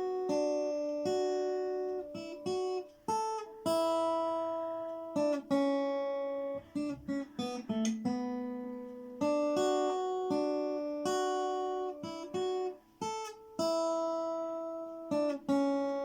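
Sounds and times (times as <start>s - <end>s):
guitar notes and chords: 0.0s - 16.0s.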